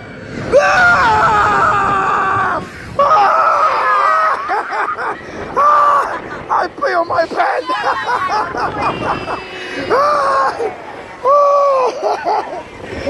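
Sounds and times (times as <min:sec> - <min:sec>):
man and woman screaming: 0:00.5 - 0:12.0.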